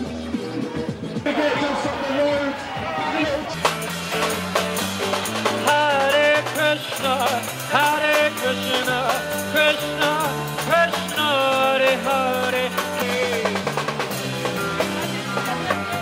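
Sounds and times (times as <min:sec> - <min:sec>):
ska music with singing: 0:00.0 - 0:16.0.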